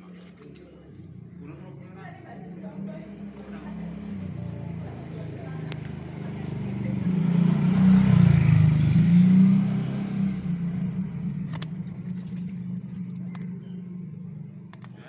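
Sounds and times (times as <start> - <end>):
vehicle engine passing: 0.8 - 15.0.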